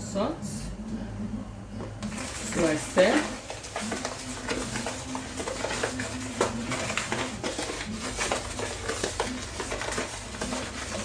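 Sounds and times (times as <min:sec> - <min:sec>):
dry couscous being stirred: 0:02.0 - 0:11.0.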